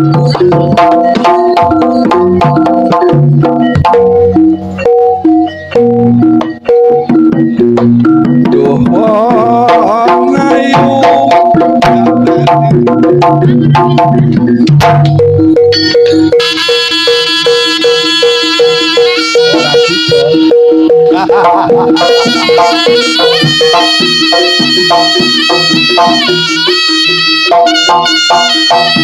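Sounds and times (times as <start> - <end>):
hand drums: 0.0 - 29.0
pitched percussion pattern: 0.0 - 29.0
wavering melodic line: 0.0 - 29.0.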